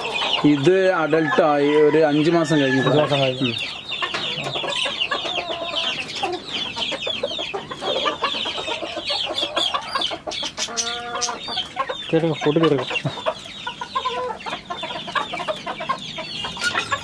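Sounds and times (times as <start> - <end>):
chicken clucking: 0.0 - 17.0
chickens peeping: 0.0 - 17.0.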